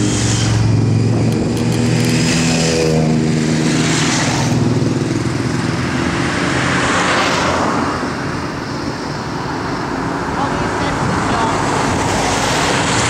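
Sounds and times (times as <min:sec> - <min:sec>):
sports bike passing: 0:00.0 - 0:13.0.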